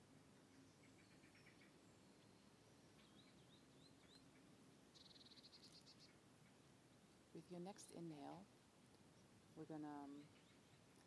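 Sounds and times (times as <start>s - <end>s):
faint outdoor ambience: 0.0s - 11.0s
small birds chirping: 0.0s - 11.0s.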